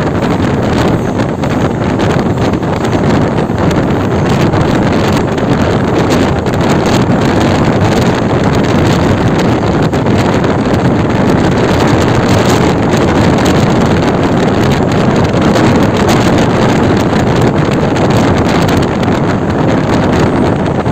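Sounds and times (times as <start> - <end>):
moving train running noise: 0.0 - 20.9
wind rushing over microphone: 0.0 - 20.9.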